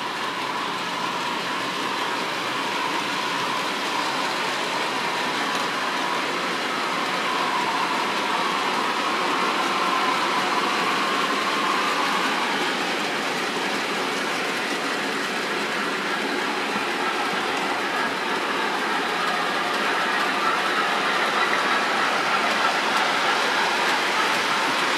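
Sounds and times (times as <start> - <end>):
model train wheels on rails: 0.0 - 24.9.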